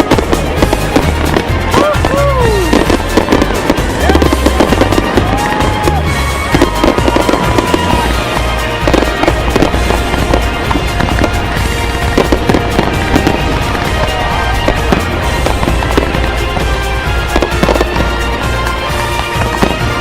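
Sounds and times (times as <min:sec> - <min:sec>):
fireworks booms: 0:00.0 - 0:20.0
fireworks crackling and popping: 0:00.0 - 0:20.0
whistling fireworks: 0:00.0 - 0:20.0.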